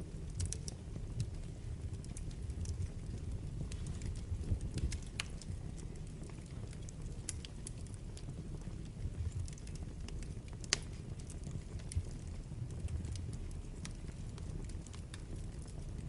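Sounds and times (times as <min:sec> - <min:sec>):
fire crackles and pops: 0:00.0 - 0:16.0
fire rumbling in fireplace: 0:00.0 - 0:16.0.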